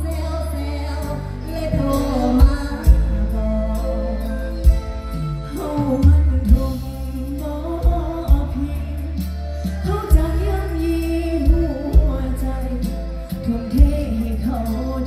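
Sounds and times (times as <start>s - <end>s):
band music with singer: 0.0s - 15.0s.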